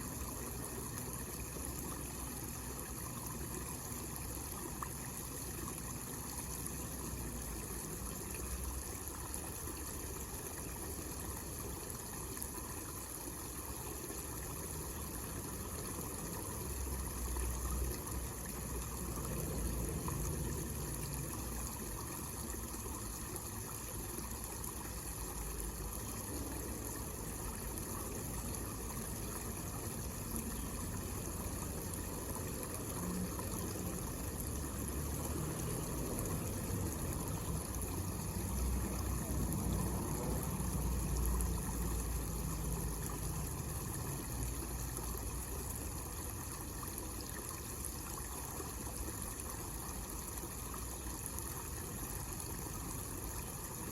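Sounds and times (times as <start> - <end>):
water trickling into a pond: 0.0 - 53.9.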